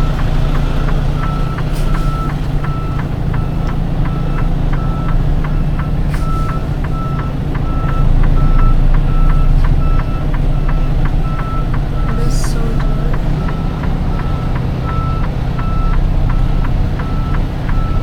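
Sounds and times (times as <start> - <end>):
reversing alarm beeping: 0.0 - 18.0
truck diesel engine running: 0.0 - 18.0.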